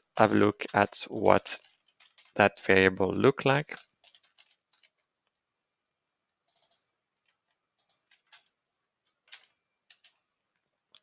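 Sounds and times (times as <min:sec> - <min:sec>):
keyboard typing: 0:00.0 - 0:05.4, 0:06.4 - 0:10.3.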